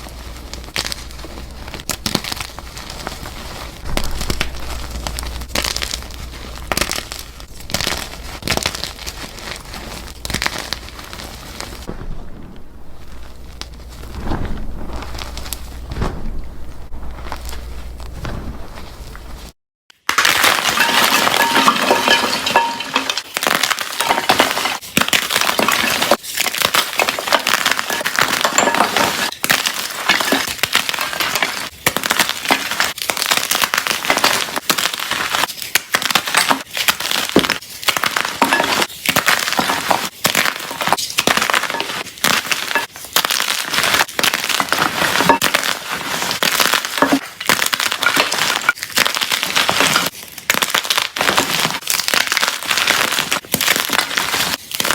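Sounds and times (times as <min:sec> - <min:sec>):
chalk being crushed: 0:00.0 - 0:11.9, 0:20.1 - 0:54.9.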